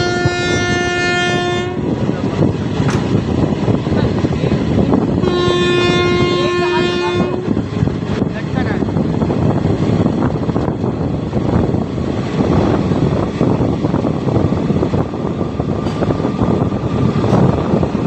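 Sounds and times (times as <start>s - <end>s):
train rumbling and rattling on rails: 0.0s - 18.0s
wind buffeting microphone: 0.0s - 18.0s.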